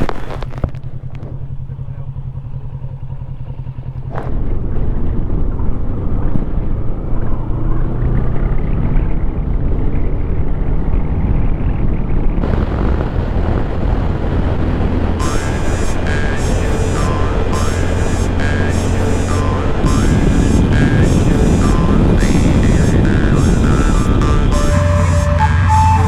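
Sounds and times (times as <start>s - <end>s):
motorcycle engine running: 0.0s - 26.0s
road and wind noise: 0.0s - 26.0s.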